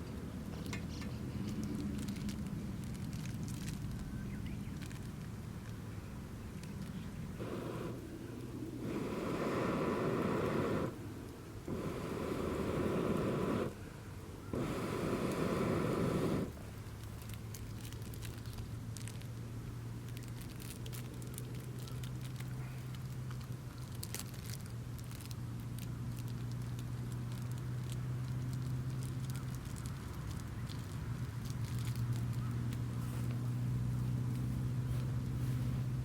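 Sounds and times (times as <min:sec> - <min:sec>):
campfire crackling: 0:00.0 - 0:36.0.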